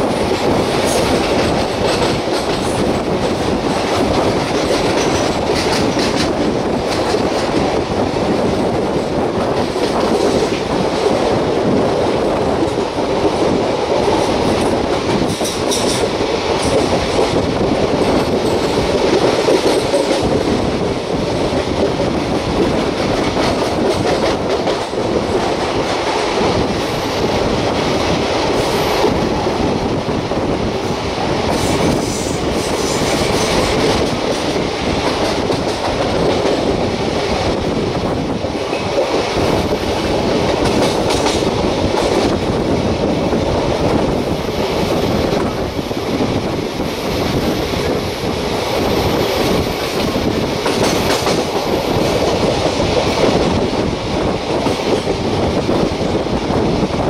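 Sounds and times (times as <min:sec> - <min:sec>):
train wheels rumbling and clattering: 0:00.0 - 0:57.0.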